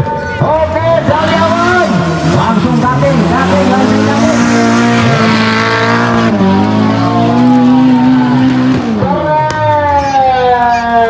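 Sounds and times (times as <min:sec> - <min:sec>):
buggy engine revving high: 0:00.0 - 0:11.0.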